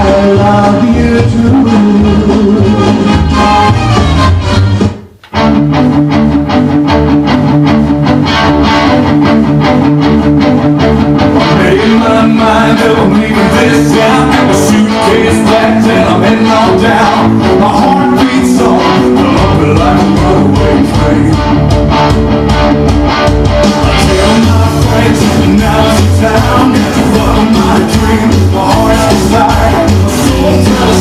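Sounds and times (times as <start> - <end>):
instrumental guitar music: 0.0 - 31.0.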